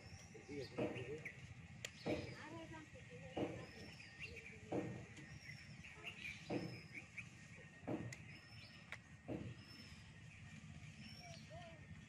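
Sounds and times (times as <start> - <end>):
bird chirps: 0.0 - 2.6, 3.2 - 12.0.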